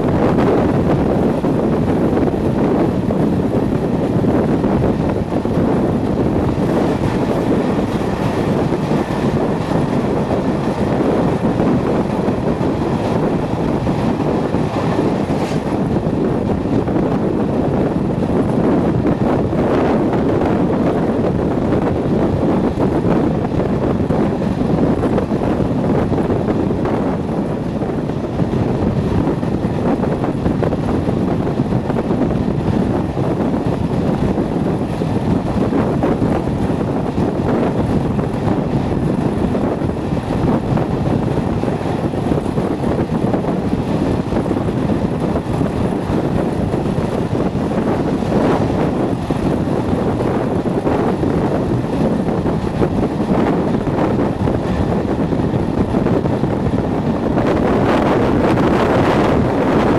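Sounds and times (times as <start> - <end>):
diesel locomotive engine: 0.0 - 59.9
train running noise: 0.0 - 59.9
wind rushing on microphone: 0.0 - 59.9.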